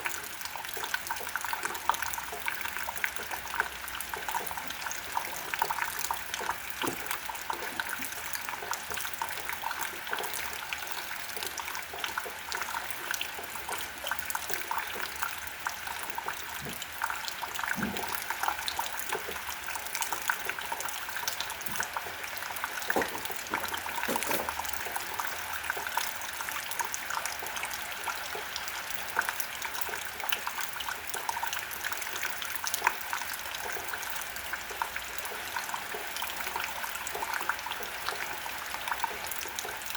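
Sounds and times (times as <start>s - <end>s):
heavy water drip: 0.0s - 39.9s
rain patter: 0.0s - 39.9s
trickling water: 0.0s - 39.9s.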